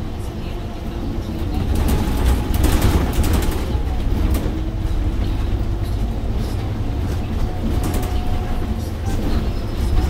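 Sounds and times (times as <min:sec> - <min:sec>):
bus engine rumble: 0:00.0 - 0:10.0
road noise: 0:00.0 - 0:10.0.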